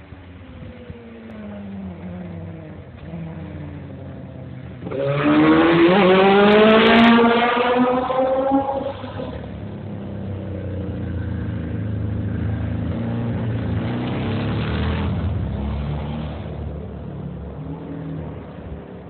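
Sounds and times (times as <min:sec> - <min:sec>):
motorcycle engine revving: 0:00.6 - 0:16.9.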